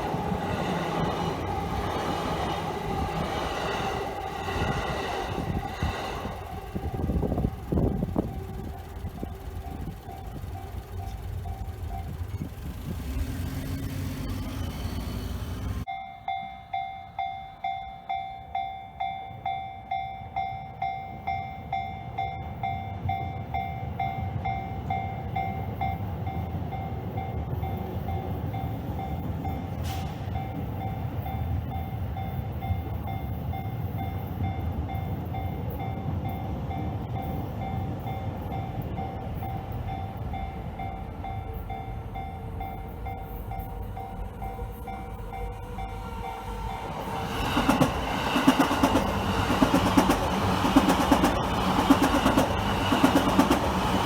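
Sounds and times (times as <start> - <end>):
train rumbling on tracks: 0.0 - 54.0.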